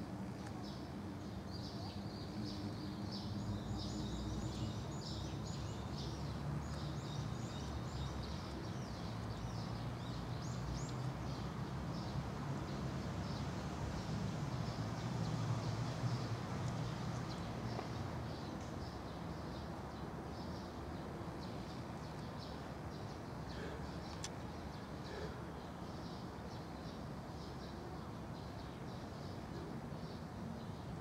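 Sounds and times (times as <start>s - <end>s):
small birds chirping: 0.4s - 31.0s.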